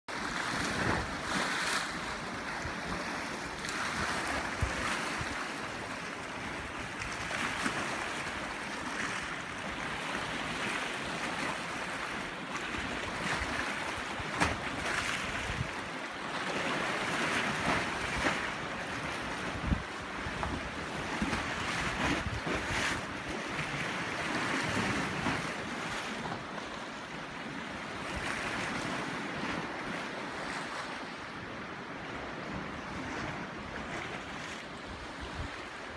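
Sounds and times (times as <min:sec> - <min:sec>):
waves lapping against rocks: 0:00.1 - 0:35.9
wind on microphone: 0:00.2 - 0:35.9.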